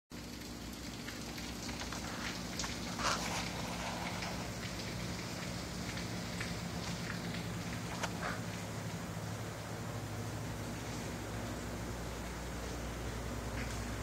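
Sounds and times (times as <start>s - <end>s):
steady low hum: 0.2s - 14.0s.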